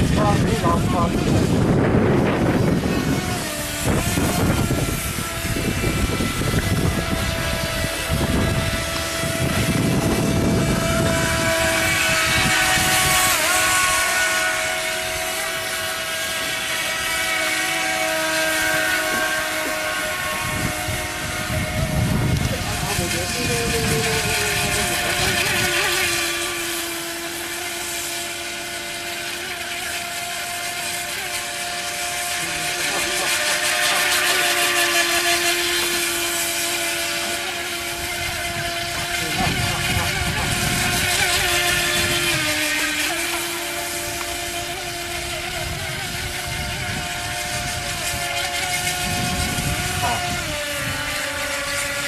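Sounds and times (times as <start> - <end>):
electric motor high whine: 0.0 - 52.0.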